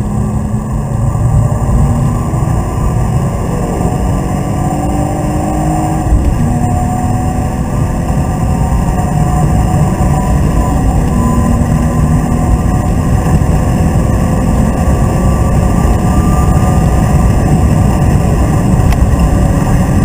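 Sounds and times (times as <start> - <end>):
car engine running: 0.0 - 20.0
road noise rumble: 0.0 - 20.0.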